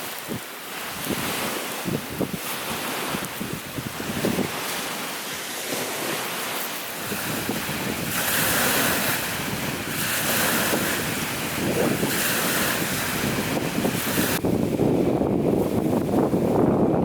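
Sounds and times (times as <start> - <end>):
waves washing on shore: 0.0 - 17.0
wind rumbling on microphone: 0.0 - 17.0.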